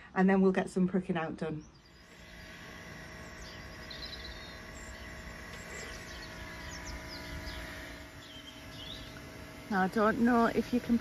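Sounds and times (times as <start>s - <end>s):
small birds chirping: 0.6s - 11.0s
low hum and rumble: 1.5s - 11.0s.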